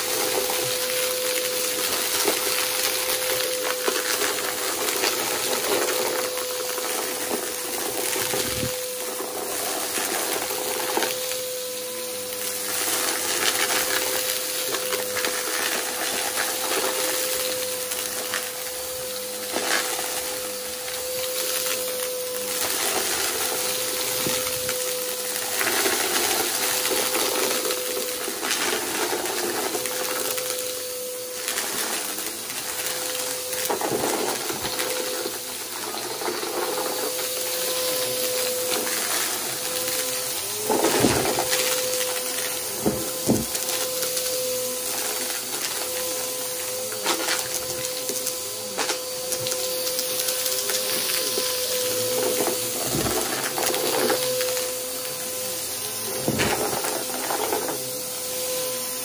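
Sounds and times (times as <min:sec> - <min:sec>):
debris crackling in vacuum: 0:00.0 - 0:59.0
vacuum cleaner motor whine: 0:00.0 - 0:59.0.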